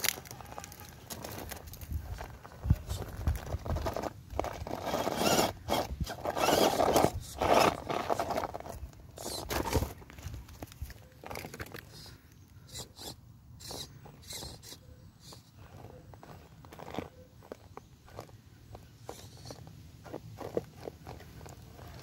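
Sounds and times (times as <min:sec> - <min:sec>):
tyres scraping and crunching on stone: 0:00.0 - 0:22.0.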